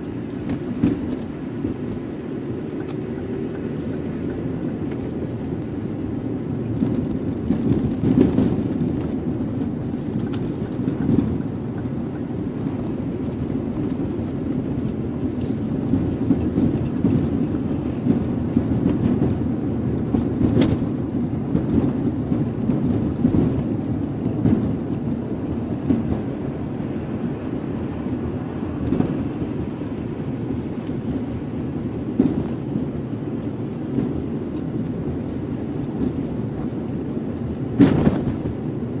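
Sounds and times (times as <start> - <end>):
road and tyre rumble: 0.0 - 39.0.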